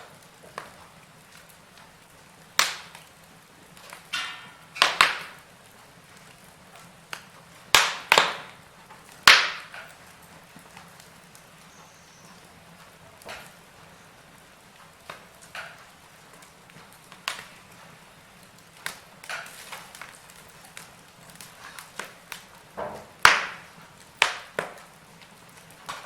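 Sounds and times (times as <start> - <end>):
faint steady hiss: 0.0 - 26.0
sharp pops and cracks of fire: 0.0 - 26.0
wood fire crackling: 0.0 - 26.0.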